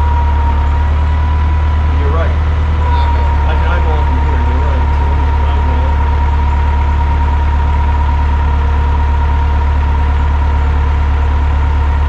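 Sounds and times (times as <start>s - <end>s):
engine running with high whine: 0.0s - 12.0s.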